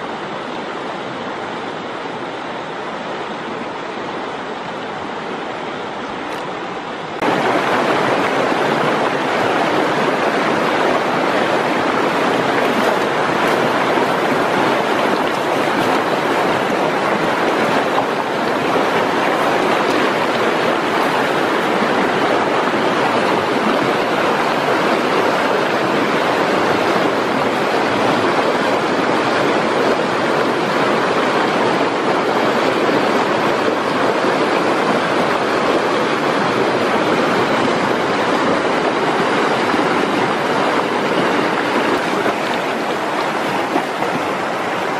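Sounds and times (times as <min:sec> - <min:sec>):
river rushing: 0:00.0 - 0:44.9.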